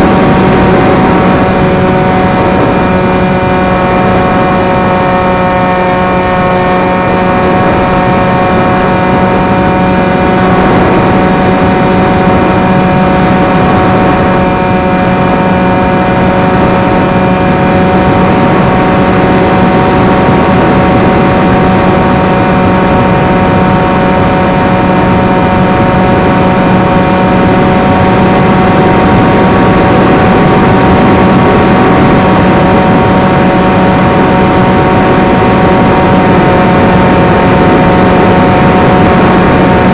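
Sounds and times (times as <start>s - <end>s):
electric motor and propeller: 0.0s - 39.9s
wind rush over microphone: 0.0s - 39.9s.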